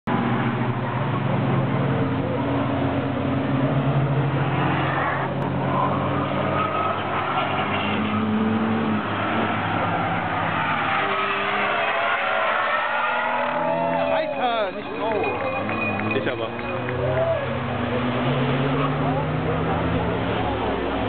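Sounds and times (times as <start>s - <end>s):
race cars driving past: 0.1s - 21.0s.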